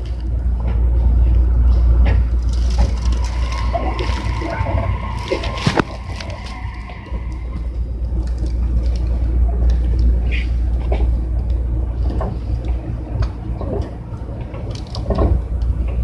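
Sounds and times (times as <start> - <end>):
electric train humming: 0.0 - 16.0.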